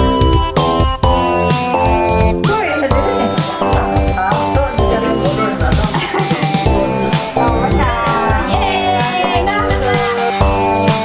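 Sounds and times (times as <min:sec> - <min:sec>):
electronic music with synth chords: 0:00.0 - 0:11.0.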